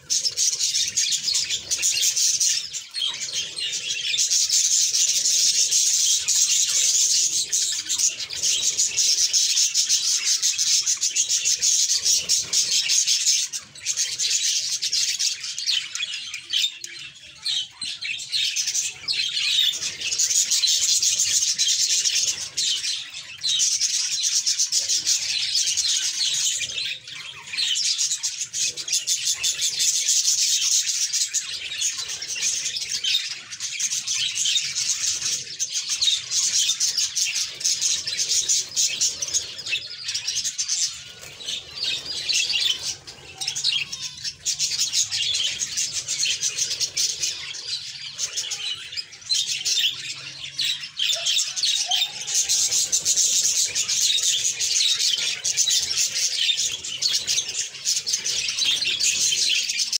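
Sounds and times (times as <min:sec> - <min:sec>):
budgerigars chattering: 0:00.0 - 0:59.9.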